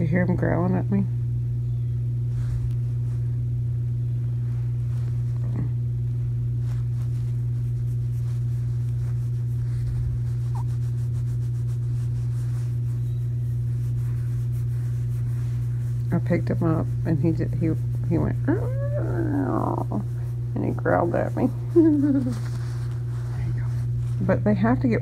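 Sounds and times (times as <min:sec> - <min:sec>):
low hum: 0:00.0 - 0:25.0
faint rustles: 0:01.4 - 0:25.0.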